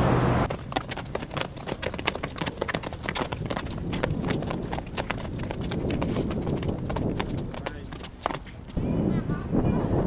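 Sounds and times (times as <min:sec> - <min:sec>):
running footsteps on a track: 0:00.4 - 0:09.1.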